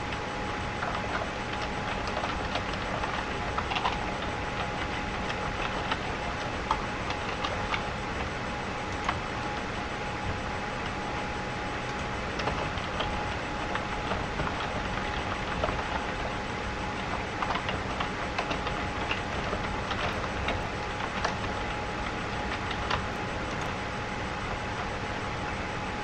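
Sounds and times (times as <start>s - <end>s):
keyboard typing: 0.8s - 25.5s.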